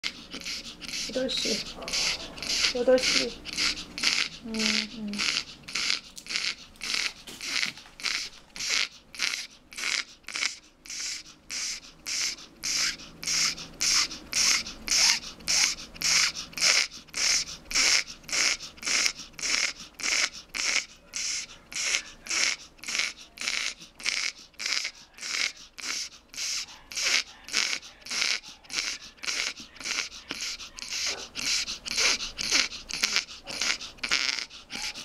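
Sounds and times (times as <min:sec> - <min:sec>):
dog panting hard: 0:00.0 - 0:35.0.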